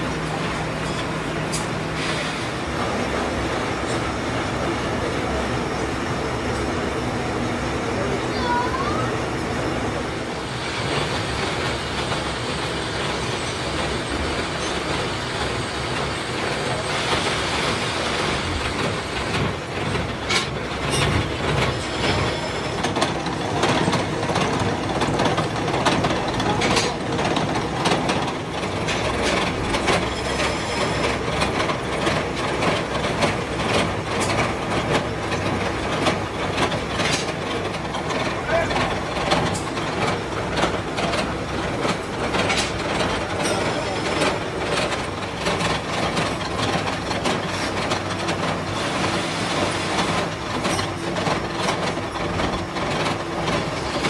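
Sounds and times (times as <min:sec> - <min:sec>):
gear cutting machine clattering: 0:10.6 - 0:54.0.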